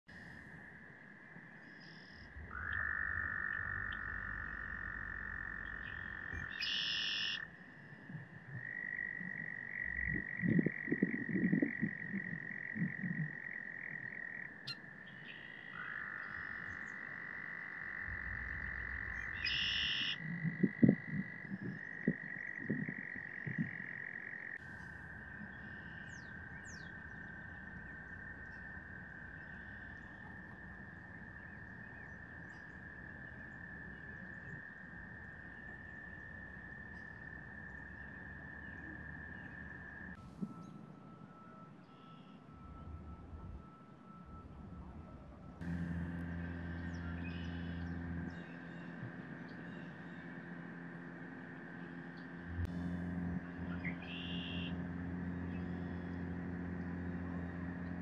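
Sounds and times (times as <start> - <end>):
frogs trilling: 0.1 - 40.2, 45.5 - 58.0.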